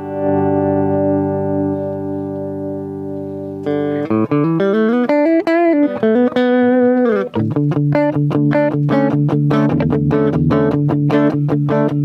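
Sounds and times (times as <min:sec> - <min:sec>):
clean electric guitar: 0:00.0 - 0:12.0.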